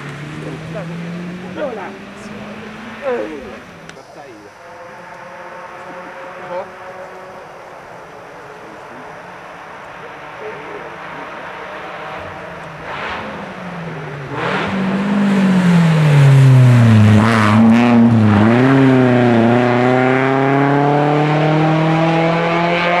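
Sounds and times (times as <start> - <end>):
rally car passing at speed: 0.0 - 23.0.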